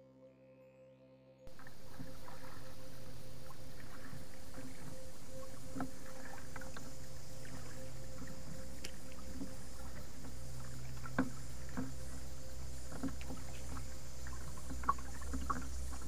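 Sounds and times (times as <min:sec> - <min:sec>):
cicadas droning: 0:01.5 - 0:16.0
kayak paddling on calm water: 0:01.5 - 0:16.0.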